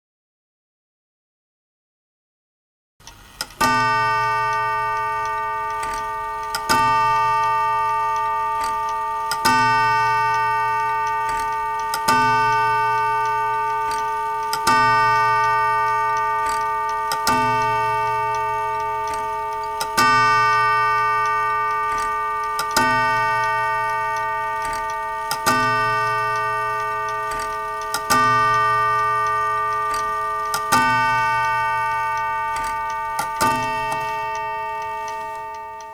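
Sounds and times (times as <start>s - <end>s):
clock mechanism click: 3.0s - 35.9s
clock striking: 3.6s - 35.9s.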